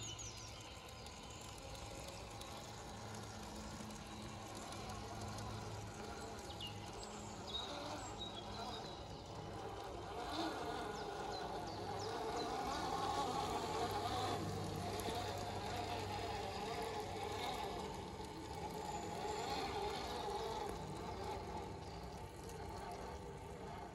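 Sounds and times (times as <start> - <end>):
electric motors whining: 0.0 - 23.9.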